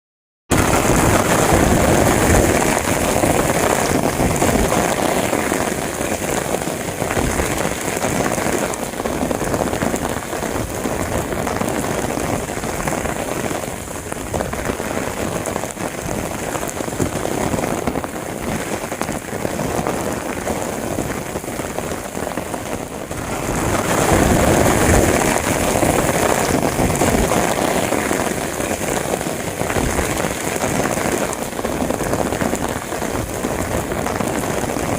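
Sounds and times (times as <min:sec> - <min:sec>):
heavy rain falling: 0:00.5 - 0:34.9.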